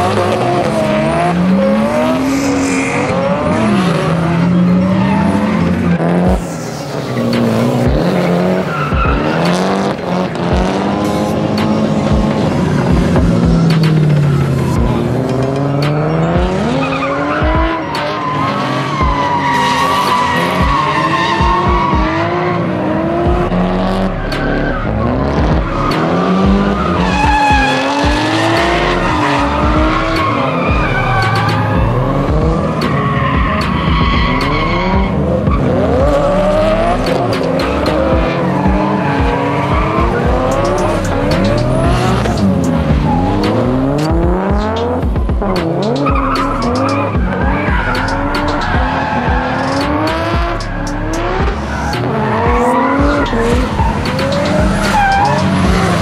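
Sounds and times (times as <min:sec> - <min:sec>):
car engines revving: 0:00.0 - 0:56.0
tires squealing and skidding: 0:00.0 - 0:56.0.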